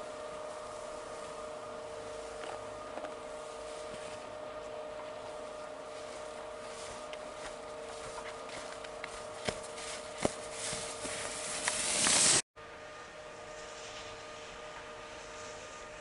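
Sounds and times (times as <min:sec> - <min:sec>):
skis scraping over snow: 0:00.0 - 0:12.4, 0:13.4 - 0:16.0
faint steady hum: 0:00.0 - 0:16.0.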